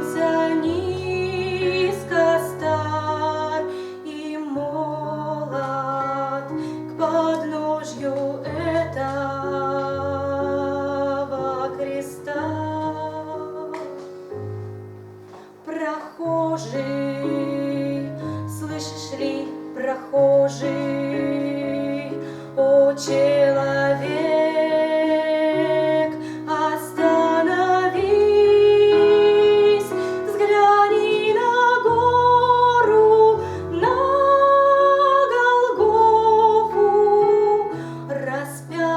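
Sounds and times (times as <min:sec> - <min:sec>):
woman singing: 0:00.0 - 0:14.2, 0:15.6 - 0:38.9
instrumental accompaniment: 0:00.0 - 0:38.9.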